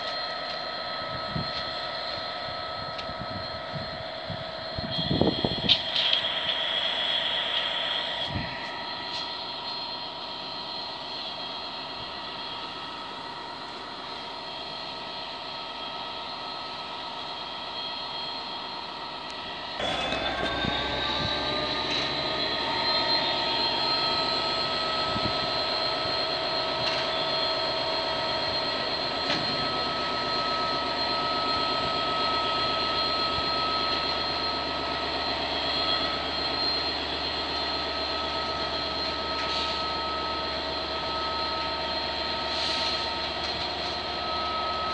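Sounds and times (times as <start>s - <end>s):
diesel locomotive engine idling: 0.0s - 44.9s.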